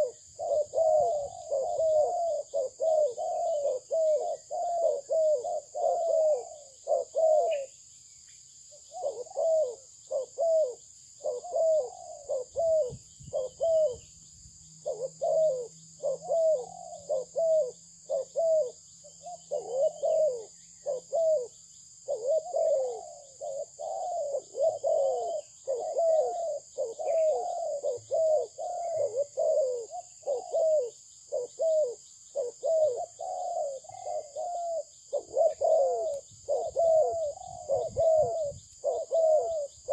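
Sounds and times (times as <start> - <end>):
dove cooing: 0.0 - 7.8, 8.8 - 14.1, 14.8 - 39.9.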